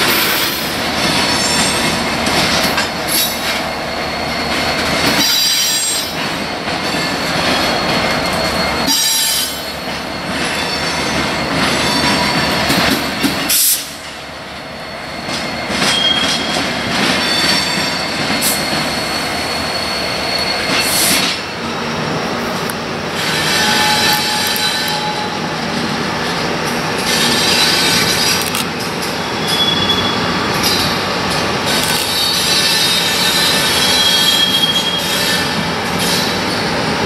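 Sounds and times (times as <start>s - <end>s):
freight train rumbling on rails: 0.0s - 37.0s
train wheels squealing: 0.0s - 37.0s.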